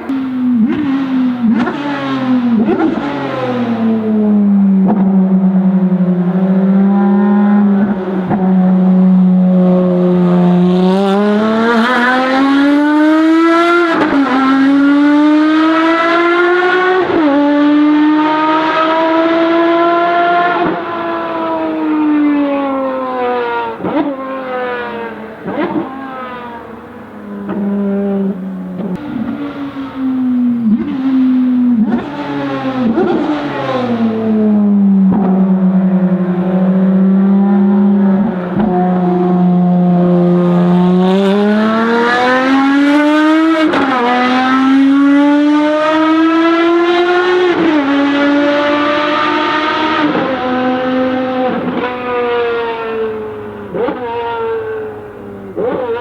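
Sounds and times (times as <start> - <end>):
racing engine revving: 0.0 - 56.0.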